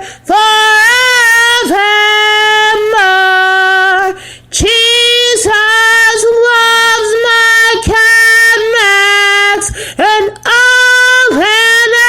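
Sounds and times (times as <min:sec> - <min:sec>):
woman singing slow unaccompanied: 0:00.0 - 0:12.0.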